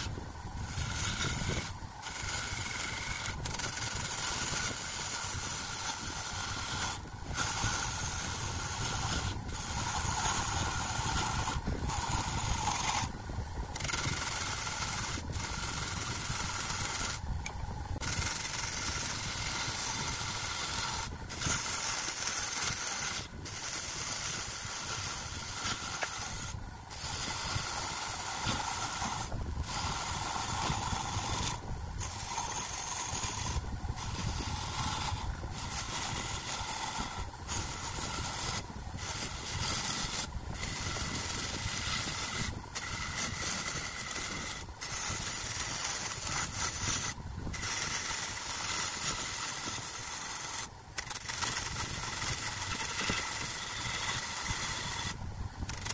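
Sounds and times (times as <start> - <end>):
tool hissing against spinning wood: 0.0 - 55.9
wood lathe running: 0.0 - 55.9.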